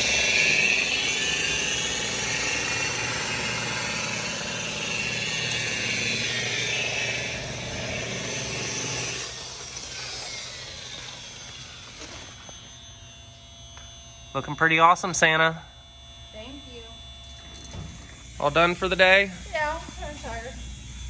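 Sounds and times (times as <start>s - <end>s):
electric rotary buffer running: 0.0s - 21.0s.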